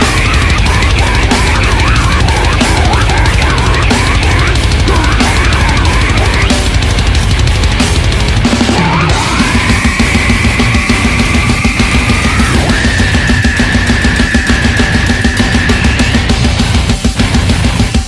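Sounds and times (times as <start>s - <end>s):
fast drumming: 0.0s - 18.0s
heavy distorted guitars: 0.0s - 18.0s.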